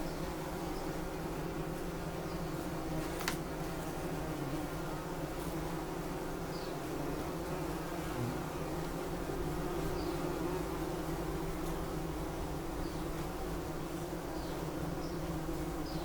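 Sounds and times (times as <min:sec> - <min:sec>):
bumblebee buzzing: 0:00.0 - 0:16.0.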